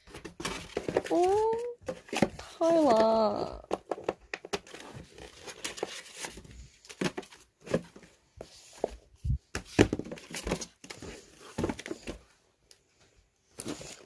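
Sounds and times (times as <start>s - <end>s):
packaging rustling and crinkling: 0.0s - 12.4s, 13.5s - 14.0s.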